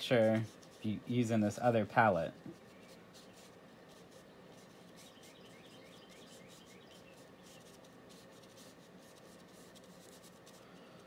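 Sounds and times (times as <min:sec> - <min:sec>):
paintbrush rubbing on paper: 0:00.0 - 0:01.6, 0:02.5 - 0:10.6.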